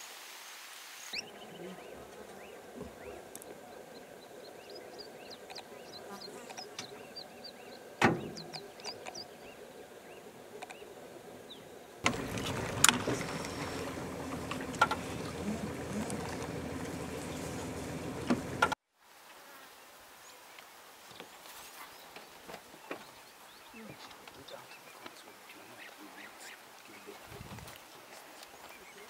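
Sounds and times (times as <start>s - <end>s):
noisy outdoor ambience: 0.0s - 29.0s.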